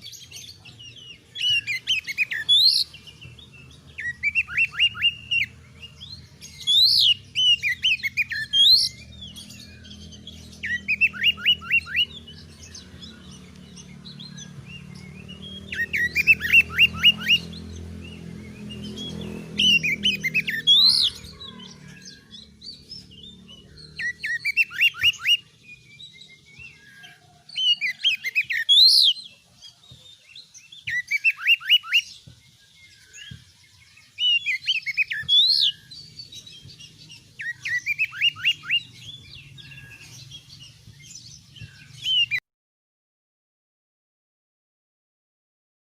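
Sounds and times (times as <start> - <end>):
bird singing: 0.0 - 42.4.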